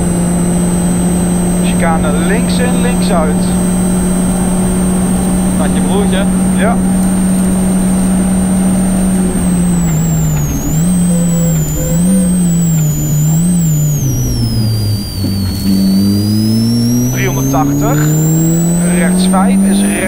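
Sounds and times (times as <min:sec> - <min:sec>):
car engine revving: 0:00.0 - 0:20.0
high whine: 0:00.0 - 0:20.0.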